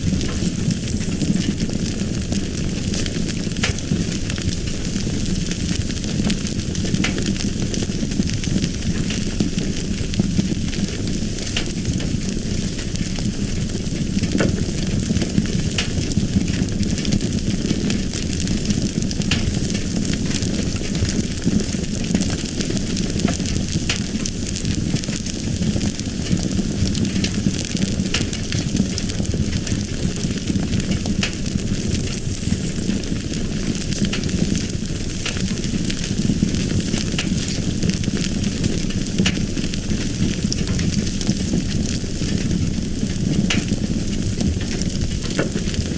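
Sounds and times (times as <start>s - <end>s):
fire crackling: 0.0s - 45.9s.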